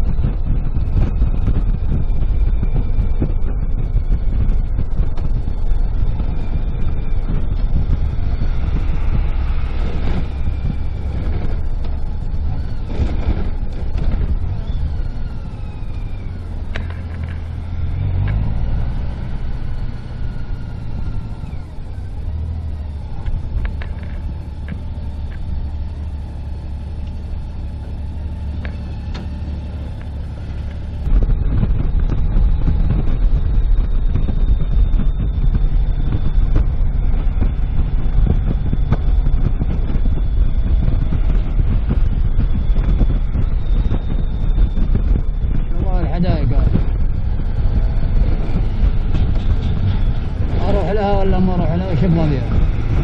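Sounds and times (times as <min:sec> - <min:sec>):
car engine: 0:00.0 - 0:53.0
road noise: 0:00.0 - 0:53.0.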